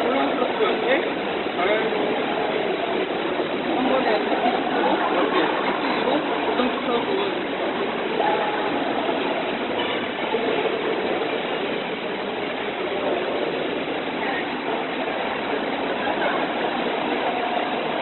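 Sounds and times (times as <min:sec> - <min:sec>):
indoor swimming pool background noise: 0:00.0 - 0:18.0.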